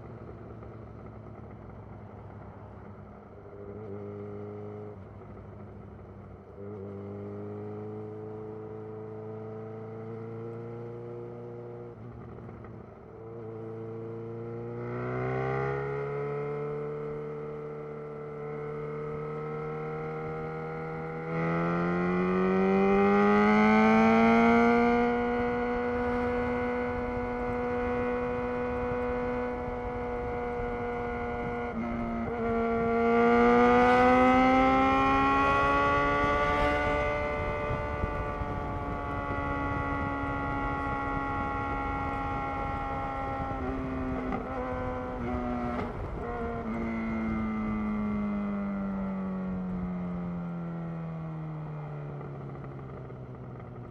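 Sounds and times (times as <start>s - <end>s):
motorcycle engine with loud exhaust: 0.0s - 53.9s.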